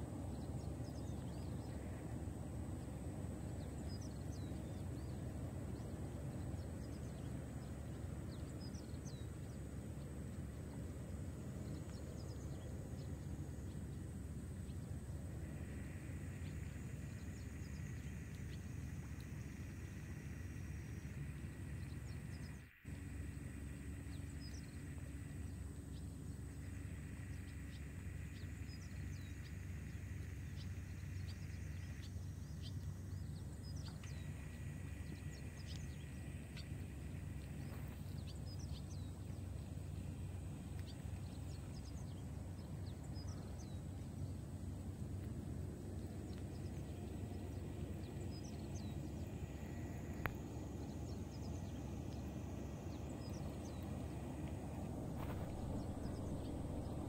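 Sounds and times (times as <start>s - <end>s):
steady background hum: 0.0s - 57.0s.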